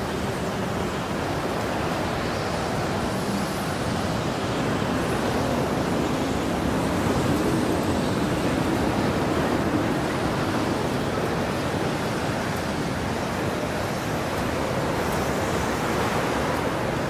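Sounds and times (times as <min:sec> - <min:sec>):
snowstorm wind blowing: 0:00.0 - 0:17.0.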